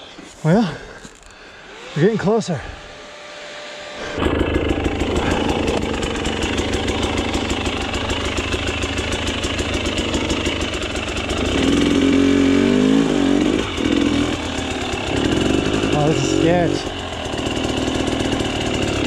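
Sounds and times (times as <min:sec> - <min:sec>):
two-stroke motorcycle engine revving: 0:01.6 - 0:03.2, 0:03.9 - 0:19.0.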